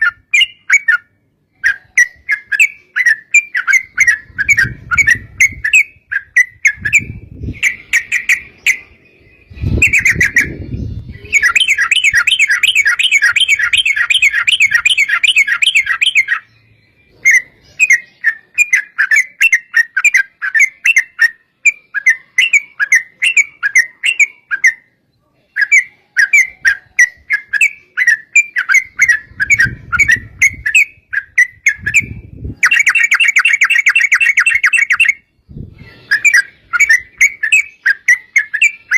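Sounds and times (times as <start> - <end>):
bird singing bubbly chatter: 0.0 - 38.9.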